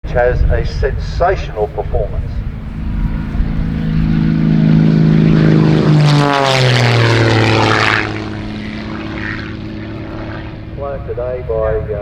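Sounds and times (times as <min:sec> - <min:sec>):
propeller plane fly-by: 0:00.0 - 0:12.0.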